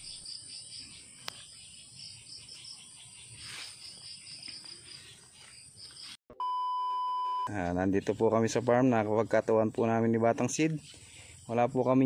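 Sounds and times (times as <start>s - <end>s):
insects chirping: 0.0s - 6.2s, 8.4s - 12.0s.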